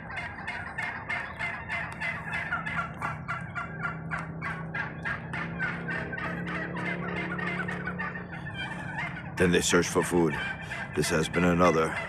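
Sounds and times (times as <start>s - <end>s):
turkeys gobbling: 0.0s - 12.0s.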